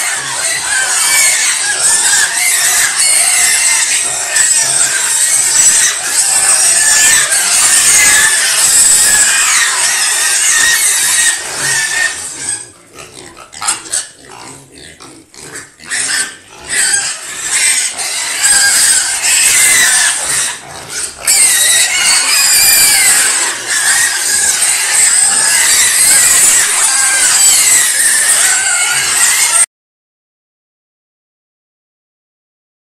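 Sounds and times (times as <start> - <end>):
piglets squealing: 0.0 - 29.7.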